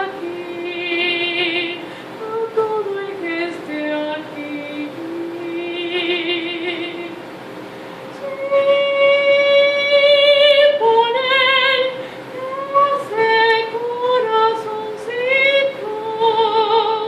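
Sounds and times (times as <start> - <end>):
woman singing unaccompanied: 0.0 - 7.2, 8.2 - 17.0.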